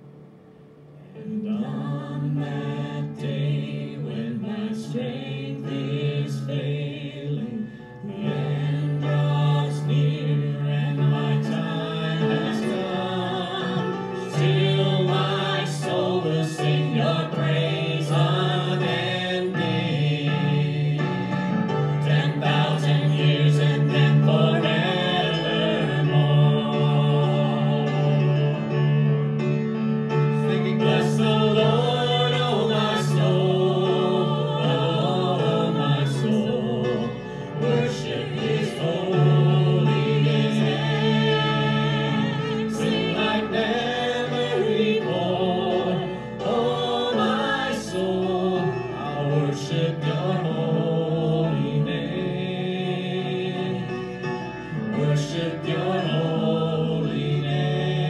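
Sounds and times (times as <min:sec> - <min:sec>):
group singing a worship song: 0:01.1 - 0:58.0.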